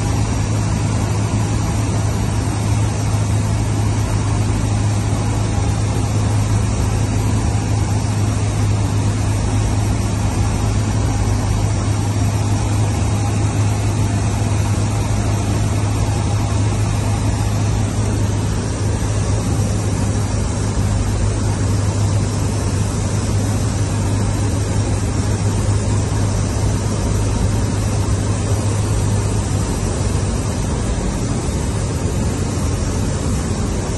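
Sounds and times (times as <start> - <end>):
airflow noise: 0.0 - 33.9
light aircraft engine droning: 0.0 - 33.9.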